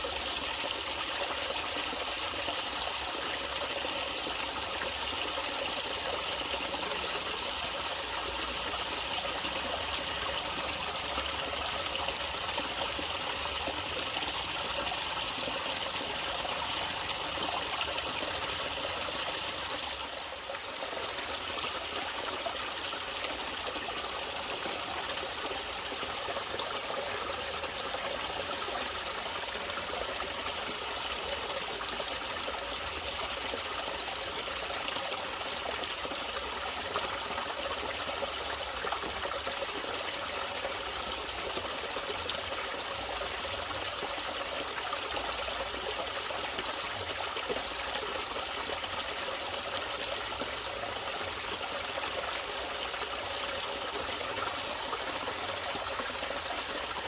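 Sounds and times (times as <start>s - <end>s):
water trickling and flowing: 0.0s - 57.0s.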